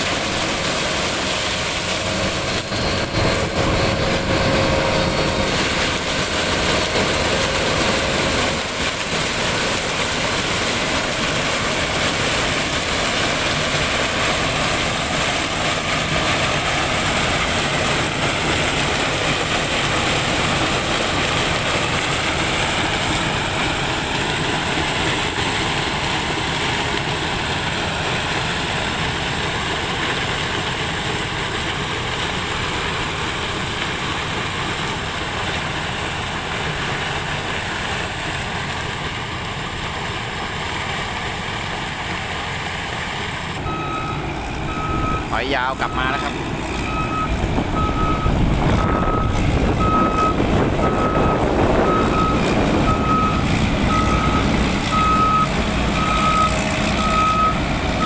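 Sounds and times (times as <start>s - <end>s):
diesel engine of heavy machine: 0.0s - 58.0s.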